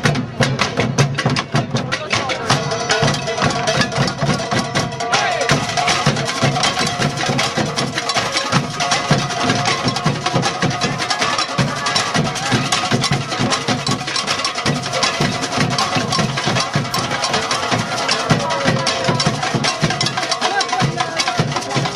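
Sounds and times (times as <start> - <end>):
drums beating steady rhythm: 0.0 - 21.9.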